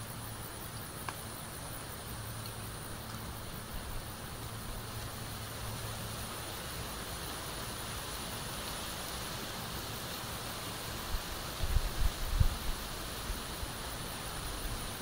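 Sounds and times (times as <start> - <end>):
even outdoor hiss: 0.0 - 15.0.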